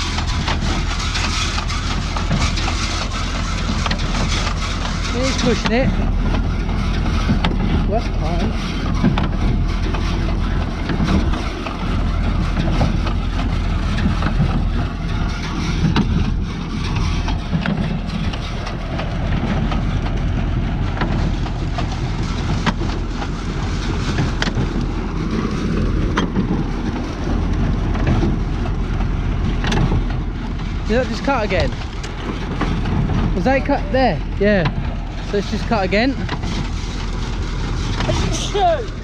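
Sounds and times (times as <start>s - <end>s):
baler working: 0.0s - 39.0s
tractor engine running: 0.0s - 39.0s.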